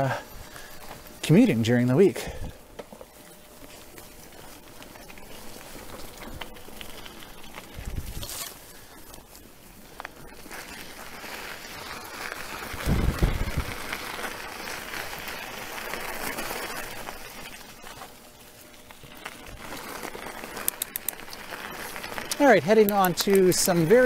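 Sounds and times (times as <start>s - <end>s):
bike tyres crunching gravel: 0.0s - 24.0s.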